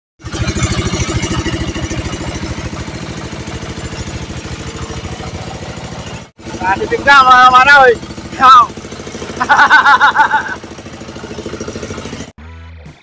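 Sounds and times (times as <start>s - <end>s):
diesel engine idling: 0.2s - 12.3s.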